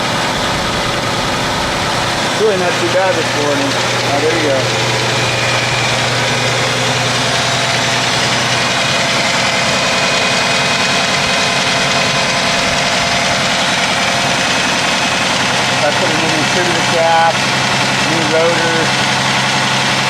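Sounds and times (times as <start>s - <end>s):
engine idling with ticking: 0.0s - 20.0s.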